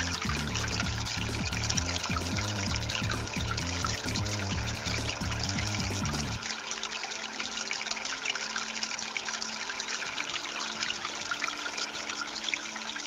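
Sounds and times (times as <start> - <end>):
fountain water trickling: 0.0 - 13.0.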